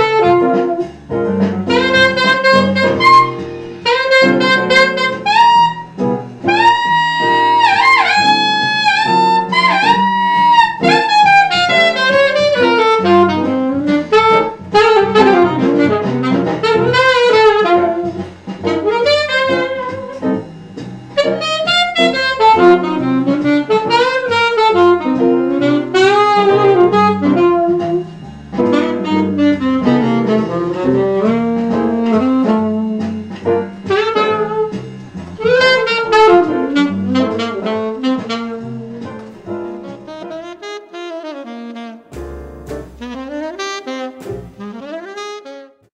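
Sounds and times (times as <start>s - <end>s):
jazz alto saxophone melody: 0.0s - 45.9s.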